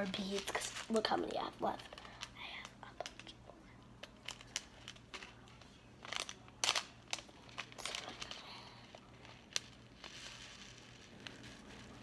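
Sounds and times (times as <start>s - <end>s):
beads crackling and clicking: 0.0s - 12.0s.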